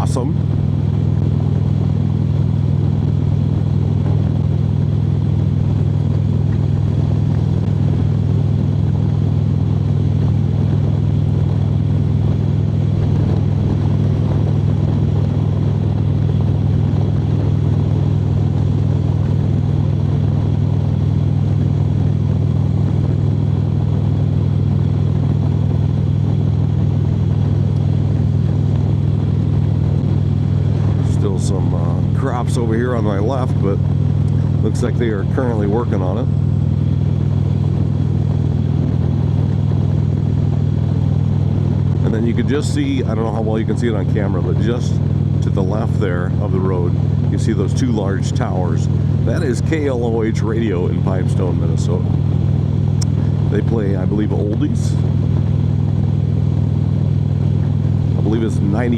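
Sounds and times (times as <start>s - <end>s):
motorcycle engine drone: 0.0s - 58.9s
road and wind noise: 0.0s - 58.9s.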